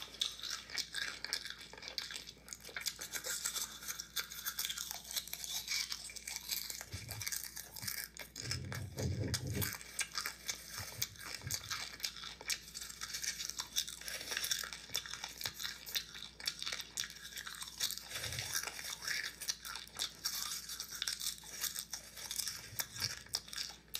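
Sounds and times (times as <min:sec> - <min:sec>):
popcorn crunching: 0:00.0 - 0:23.9.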